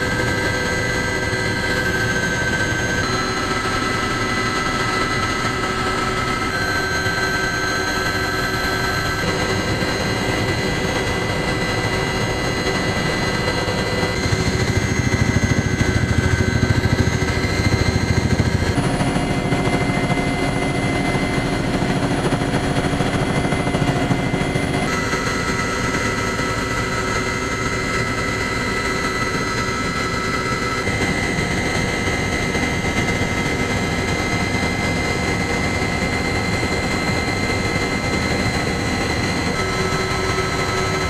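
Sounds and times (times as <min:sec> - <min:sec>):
helicopter rotor thrum: 0:00.0 - 0:41.0
helicopter turbine whine: 0:00.0 - 0:41.0.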